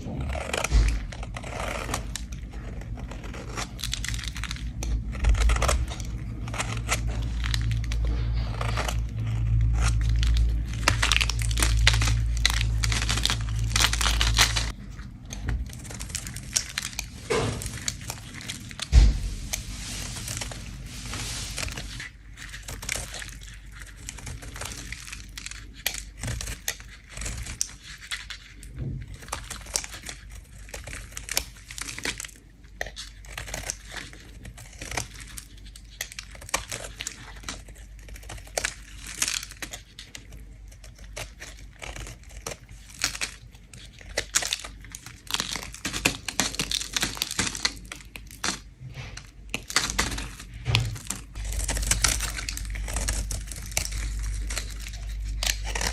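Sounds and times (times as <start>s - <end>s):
blade scraping soap: 0.0s - 55.9s.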